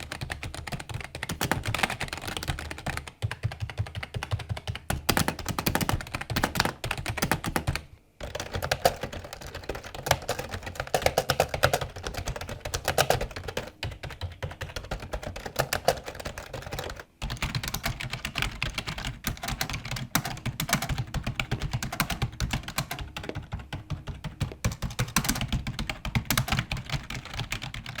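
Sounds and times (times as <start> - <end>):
fast keyboard typing: 0.0 - 28.0.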